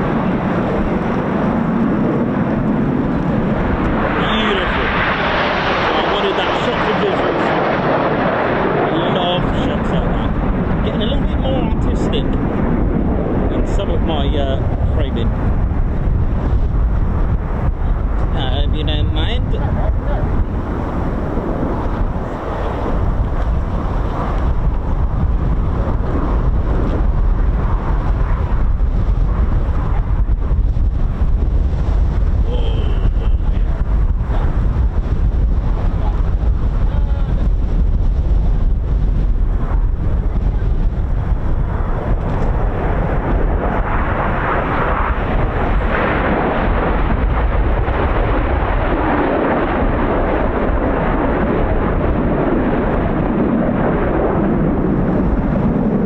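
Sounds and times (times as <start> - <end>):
jet engines rushing: 0.0 - 56.0
wind buffeting microphone: 0.0 - 56.0.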